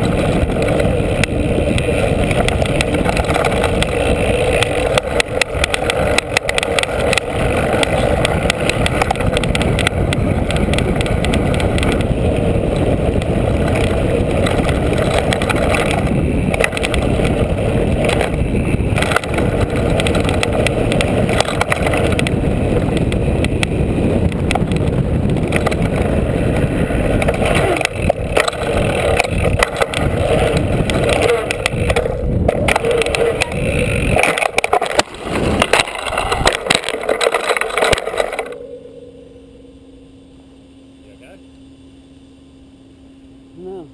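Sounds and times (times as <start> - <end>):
tyres rolling on wooden ramp: 0.0 - 38.6
wind on microphone: 0.0 - 38.6
tyres rumbling on dirt: 0.0 - 38.8
bike rattling over bumps: 0.0 - 39.3.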